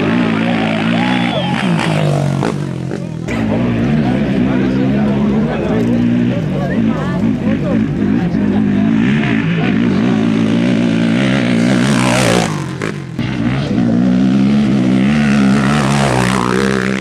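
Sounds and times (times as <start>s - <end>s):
race vehicle engines running: 0.0s - 17.0s
race vehicle passing close: 0.0s - 17.0s.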